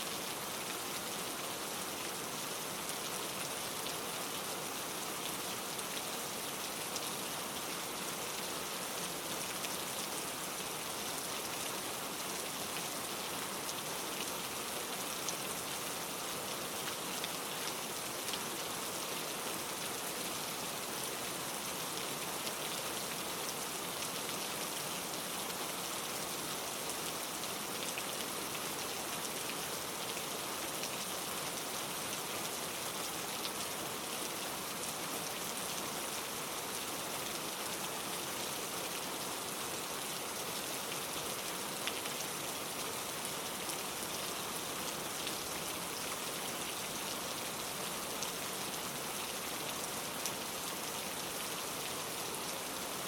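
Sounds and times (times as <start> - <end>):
rain falling in a forest: 0.0 - 53.0.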